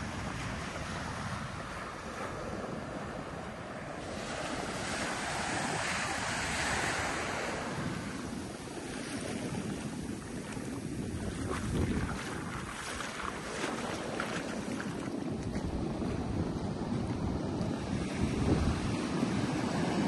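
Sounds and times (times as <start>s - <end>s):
surf washing in: 0.0s - 20.0s
wind noise on microphone: 0.0s - 20.0s.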